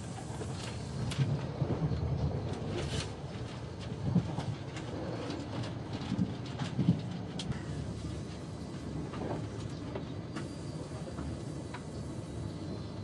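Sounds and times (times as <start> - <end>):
train cabin low rumble: 0.0 - 13.0.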